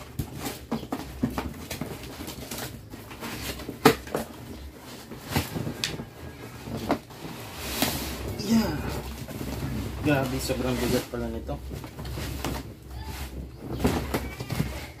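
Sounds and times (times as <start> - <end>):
cardboard and packing rustling: 0.0 - 15.0.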